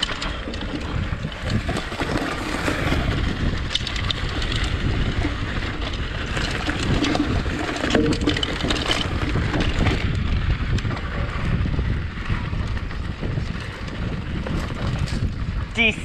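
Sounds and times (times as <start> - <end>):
bike clicking and rattling: 0.0 - 16.0
tyres rumbling over dirt: 0.0 - 16.0
wind buffeting microphone: 0.0 - 16.0.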